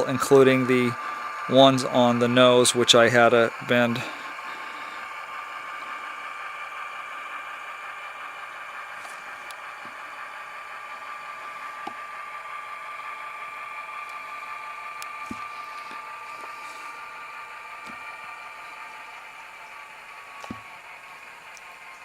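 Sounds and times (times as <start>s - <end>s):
diesel engine idling through small speaker: 0.0s - 22.0s.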